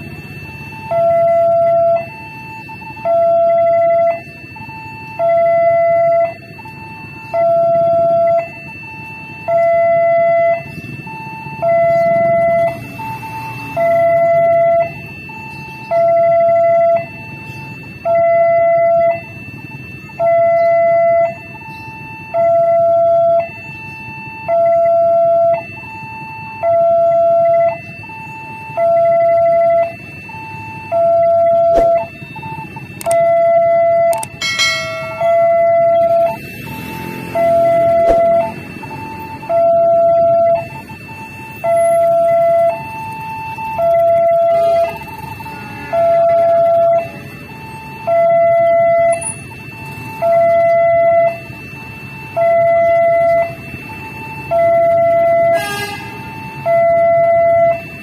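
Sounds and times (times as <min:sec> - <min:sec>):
low traffic rumble: 0:00.0 - 0:58.0
two-tone crossing alarm: 0:00.0 - 0:58.0.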